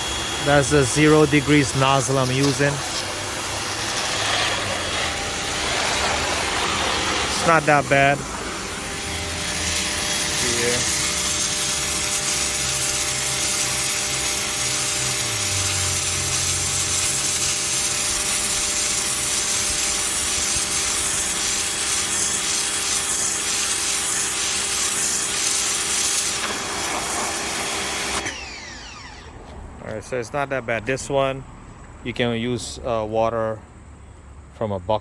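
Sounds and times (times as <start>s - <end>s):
water jet hissing against siding: 0.0s - 29.2s
pressure washer motor humming: 0.0s - 29.6s.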